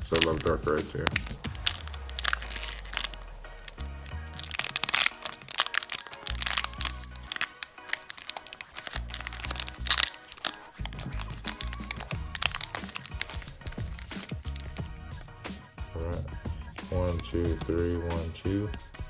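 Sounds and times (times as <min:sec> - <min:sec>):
background music with bass line: 0:00.0 - 0:05.7, 0:06.3 - 0:07.5, 0:09.0 - 0:10.1, 0:10.7 - 0:19.0
foil wrapper crinkling: 0:00.0 - 0:15.5, 0:16.9 - 0:18.9.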